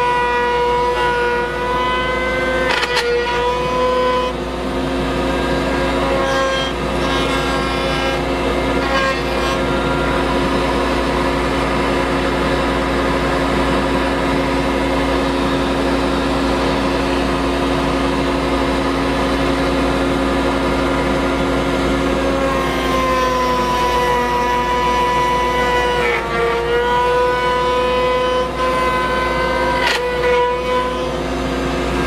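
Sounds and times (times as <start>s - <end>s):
router whining at full speed: 0.0s - 32.0s.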